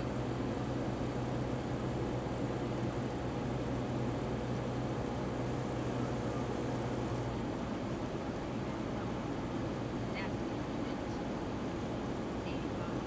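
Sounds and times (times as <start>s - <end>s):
propeller airplane engine droning: 0.0s - 13.0s.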